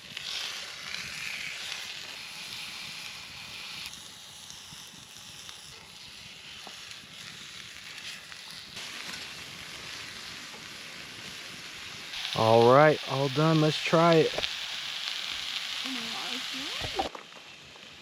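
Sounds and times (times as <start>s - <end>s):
campfire hiss: 0.0s - 18.0s
faint fire crackles: 0.0s - 18.0s
food sizzling: 0.0s - 18.0s.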